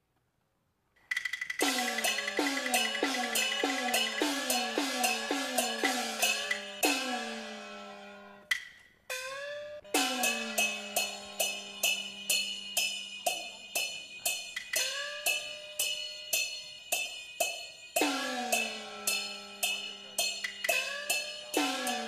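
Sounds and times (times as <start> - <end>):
crashing cymbals: 1.6 - 8.5, 9.9 - 22.0.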